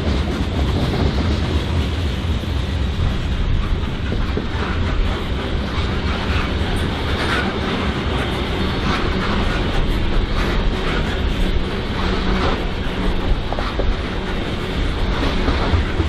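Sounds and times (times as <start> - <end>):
train wheel clacks: 0.0 - 16.0
train wheels rumbling on rails: 0.0 - 16.0.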